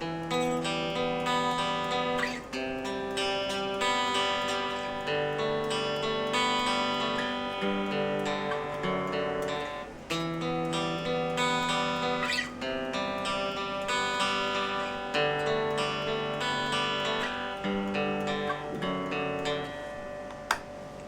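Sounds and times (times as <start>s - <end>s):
clean electric guitar chords: 0.0s - 21.0s.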